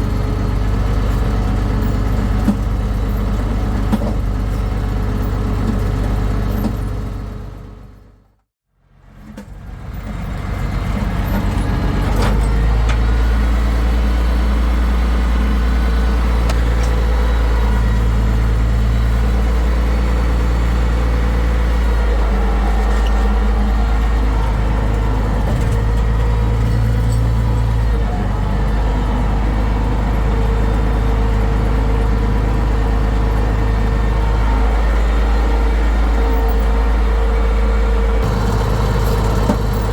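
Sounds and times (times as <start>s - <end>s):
tractor diesel engine running: 0.0s - 8.4s, 9.0s - 39.9s.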